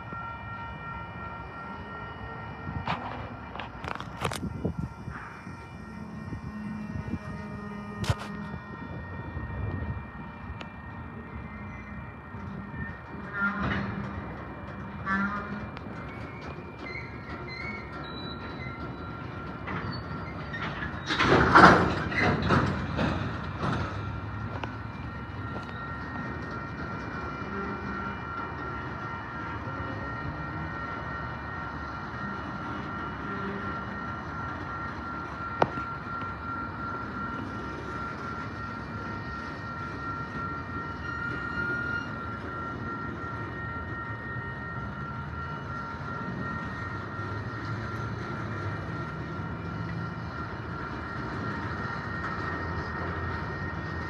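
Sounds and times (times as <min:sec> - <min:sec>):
freight train rumbling: 0:00.0 - 0:54.0
high-pitched metallic squeal: 0:00.0 - 0:54.0.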